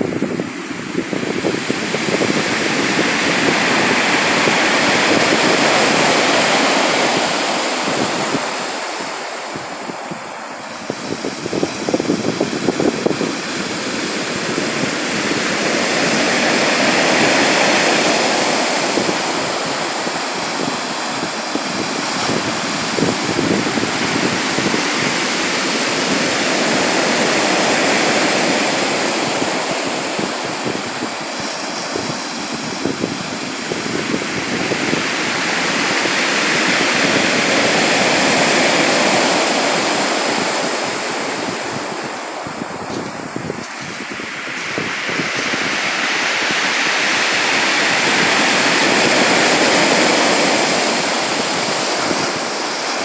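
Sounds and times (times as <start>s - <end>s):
crackling surf wash: 0.0s - 53.0s
waves breaking on shore: 0.0s - 53.0s.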